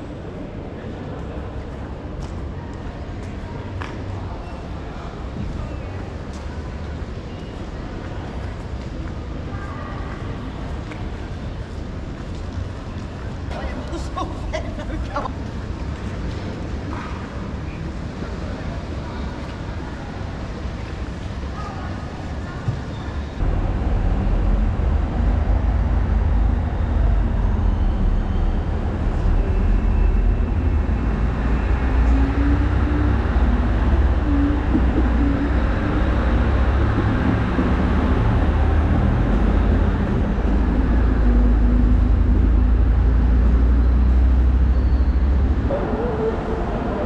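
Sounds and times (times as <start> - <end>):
train rumbling: 9.2 - 47.0.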